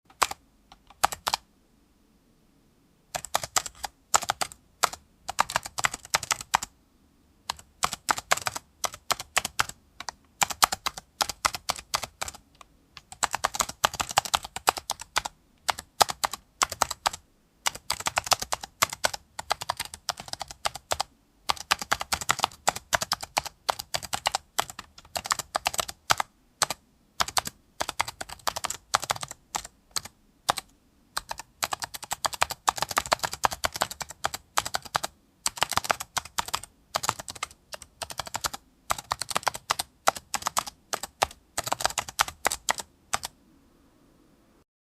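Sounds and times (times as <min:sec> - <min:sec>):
typing on computer keyboard: 0:00.1 - 0:01.4, 0:03.2 - 0:06.7, 0:07.5 - 0:43.4.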